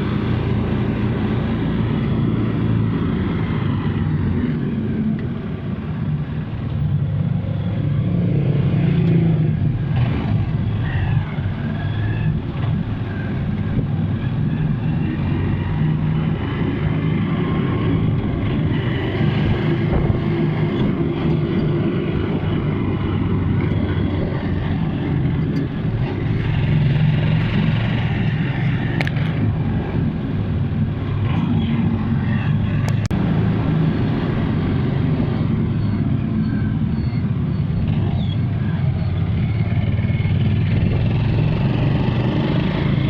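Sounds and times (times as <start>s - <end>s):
road and traffic noise: 0.0s - 43.0s.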